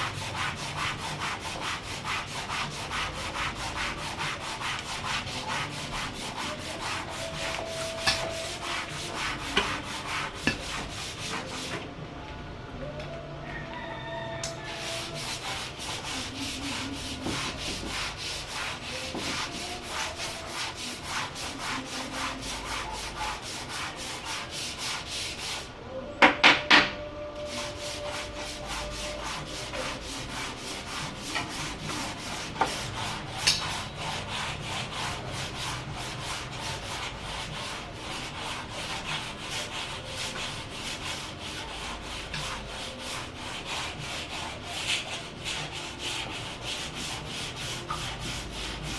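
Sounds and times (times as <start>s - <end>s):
hand sanding wood: 0.0s - 11.9s, 14.4s - 25.8s, 27.4s - 48.9s.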